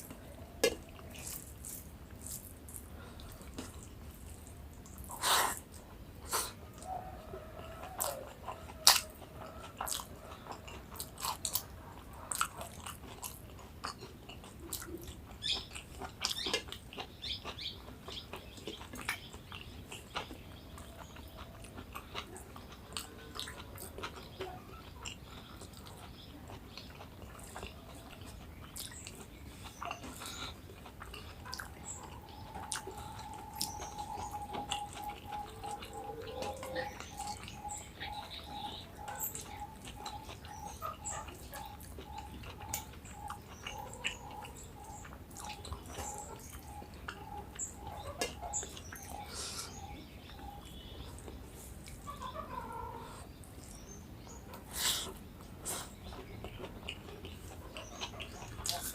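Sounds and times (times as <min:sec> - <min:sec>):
chewing crunchy food: 0:00.0 - 0:58.9.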